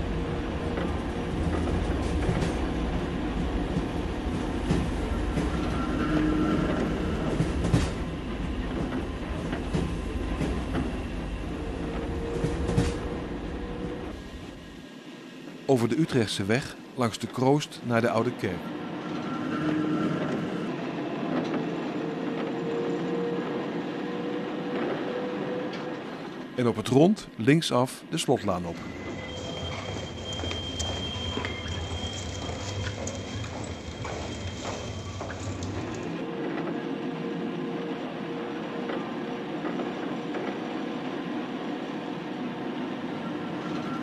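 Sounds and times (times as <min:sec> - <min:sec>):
tram rumbling on rails: 0:00.0 - 0:27.4, 0:28.1 - 0:44.0.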